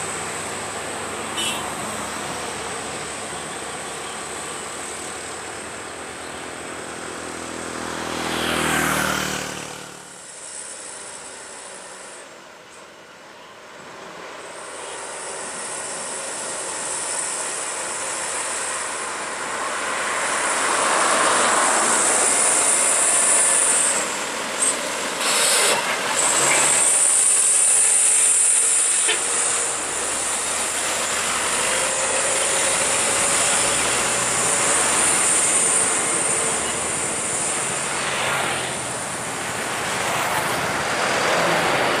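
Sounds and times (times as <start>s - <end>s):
trucks passing on highway: 0.0s - 42.0s.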